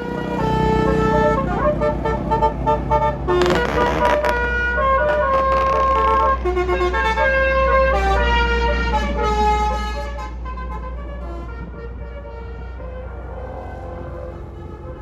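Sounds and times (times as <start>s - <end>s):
bus musical horn melody: 0.0s - 15.0s.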